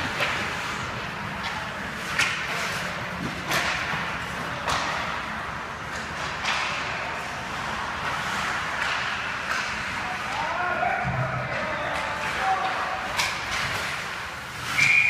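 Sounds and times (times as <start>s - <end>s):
hockey sticks and puck clacking: 0.0s - 15.0s
skate blades scraping on ice: 0.0s - 15.0s.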